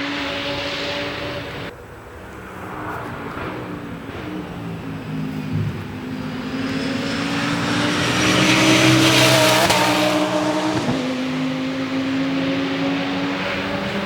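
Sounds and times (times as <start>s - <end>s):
race car engine passing: 0.0s - 14.0s.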